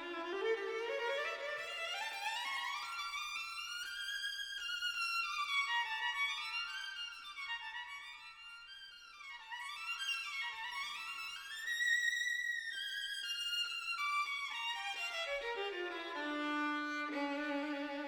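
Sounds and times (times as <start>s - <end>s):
violin melody: 0.0s - 18.0s.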